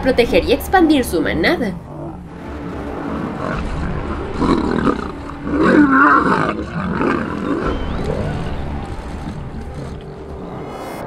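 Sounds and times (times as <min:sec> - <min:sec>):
lions growling and snarling: 0:01.8 - 0:11.0.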